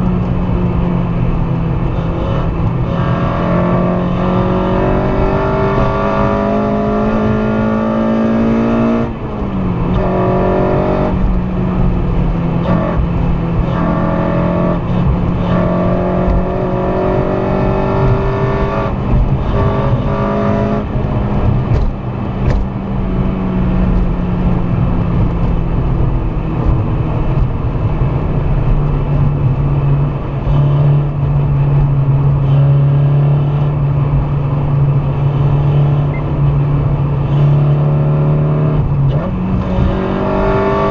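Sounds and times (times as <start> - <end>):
car engine at high revs: 0.0 - 40.9
road noise: 0.0 - 40.9.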